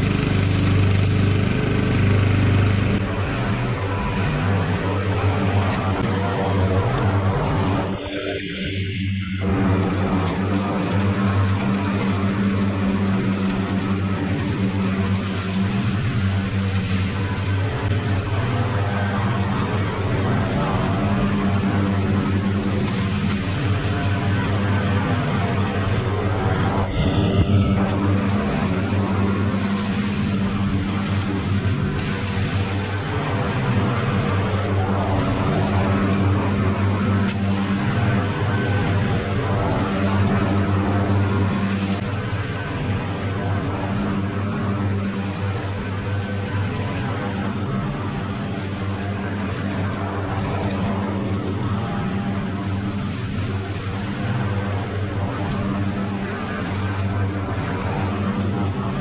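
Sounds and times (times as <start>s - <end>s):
mower deck cutting grass: 0.0s - 59.0s
riding lawn mower engine: 0.0s - 59.0s.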